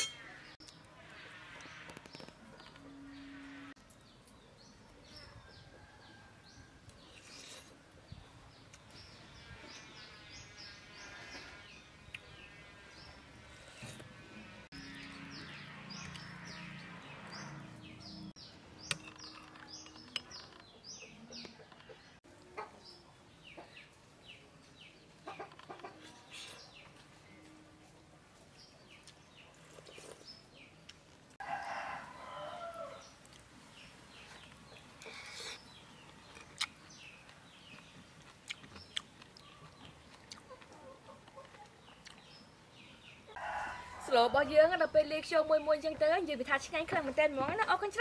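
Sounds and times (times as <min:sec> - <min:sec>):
small birds chirping: 0:00.2 - 0:14.0, 0:14.6 - 0:31.4, 0:32.2 - 0:43.4.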